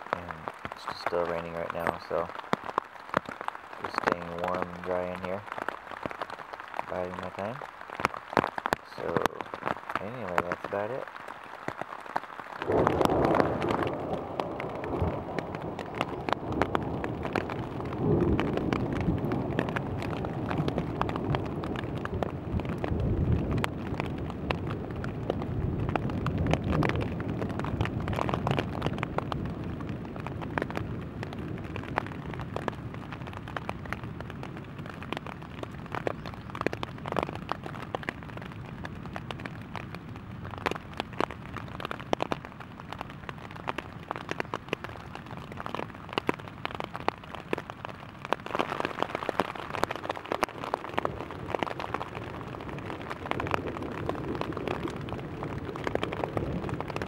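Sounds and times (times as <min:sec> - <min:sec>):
rain pattering on fabric: 0:00.0 - 0:57.0
steady rain hiss: 0:00.0 - 0:57.0.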